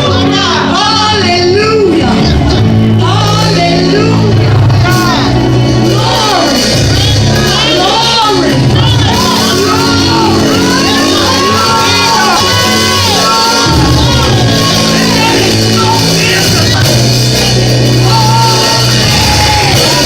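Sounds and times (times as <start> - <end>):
band playing: 0.0 - 20.0
deep bass: 0.0 - 20.0
voices singing and shouting: 0.0 - 20.0.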